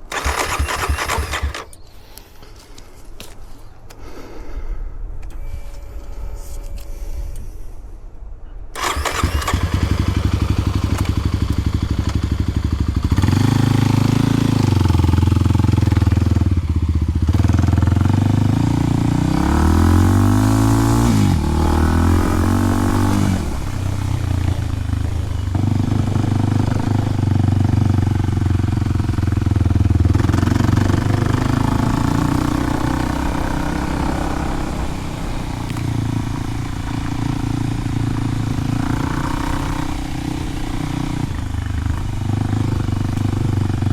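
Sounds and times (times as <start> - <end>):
motorcycle engine revving: 0.0 - 1.8, 8.8 - 43.9.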